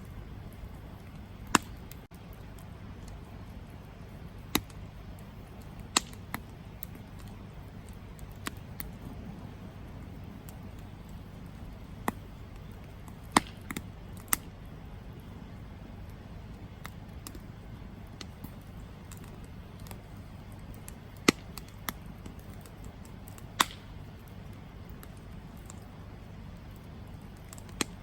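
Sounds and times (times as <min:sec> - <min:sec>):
campfire sharp pops: 0:00.0 - 0:28.0
faint fire ticks: 0:00.0 - 0:28.0
flames rumbling and hissing: 0:00.0 - 0:28.0.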